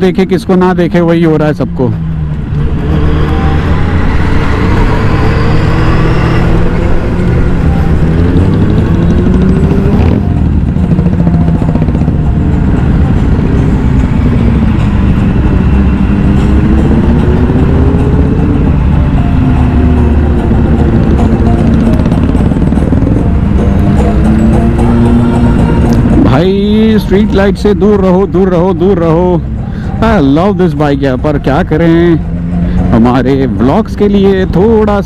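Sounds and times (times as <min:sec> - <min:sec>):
motorcycle engines accelerating: 0:00.0 - 0:35.0.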